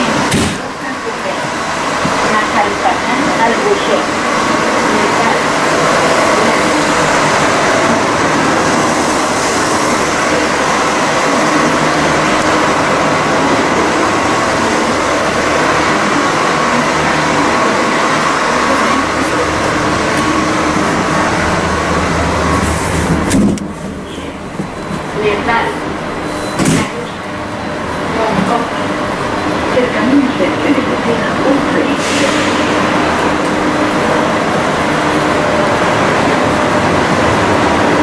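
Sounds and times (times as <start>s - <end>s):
train interior rushing noise: 0.0s - 38.0s.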